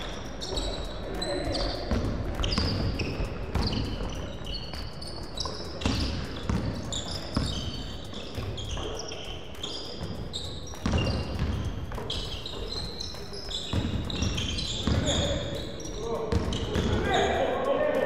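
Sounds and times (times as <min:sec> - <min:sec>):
sneakers squeaking: 0:00.0 - 0:18.0
basketball bouncing on wooden floor: 0:01.5 - 0:04.8, 0:05.4 - 0:17.1.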